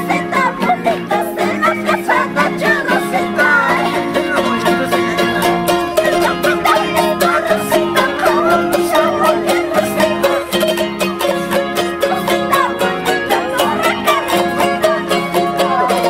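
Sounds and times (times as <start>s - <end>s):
charangos strummed fast: 0.0s - 16.0s
high voices singing: 0.0s - 16.0s.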